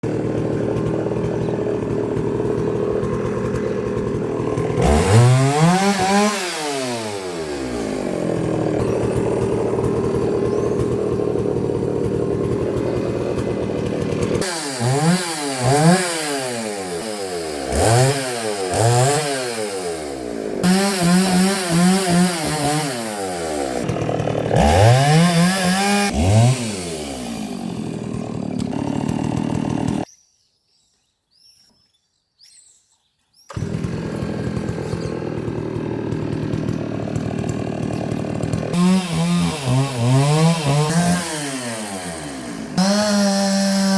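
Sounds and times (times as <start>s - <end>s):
chainsaw idling and revving: 0.0s - 30.1s, 33.5s - 43.9s.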